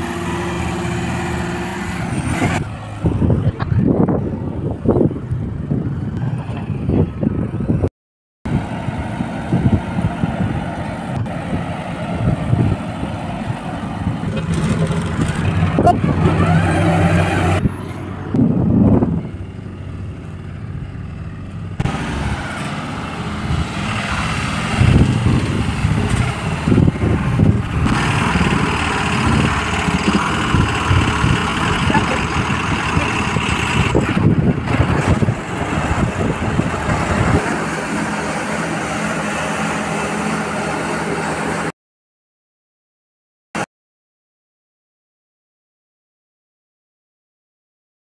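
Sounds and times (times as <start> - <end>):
heavy machinery diesel engines: 0.0 - 7.9, 8.5 - 41.7.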